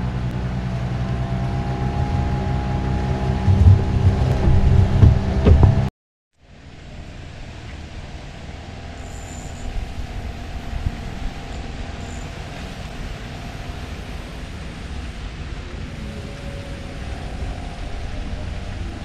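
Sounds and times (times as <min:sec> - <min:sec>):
outboard motor running: 0:00.0 - 0:05.9, 0:07.5 - 0:19.0
wind on microphone: 0:00.0 - 0:05.9, 0:08.0 - 0:19.0.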